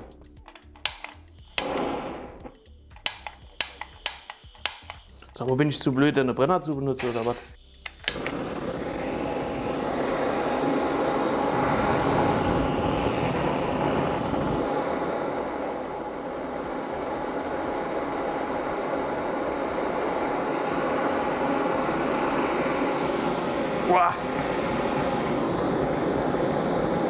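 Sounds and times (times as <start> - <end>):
gas torch hissing: 0.0 - 27.0.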